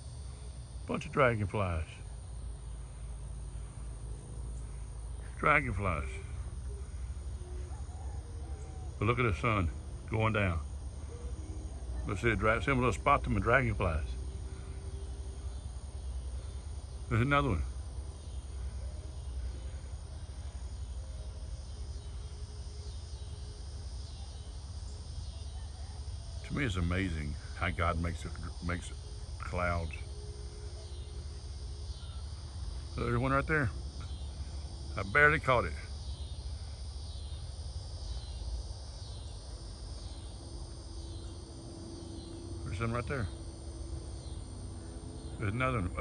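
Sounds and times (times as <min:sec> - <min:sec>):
steady low rumble: 0:00.0 - 0:25.4, 0:26.0 - 0:46.0
insects trilling: 0:00.0 - 0:46.0.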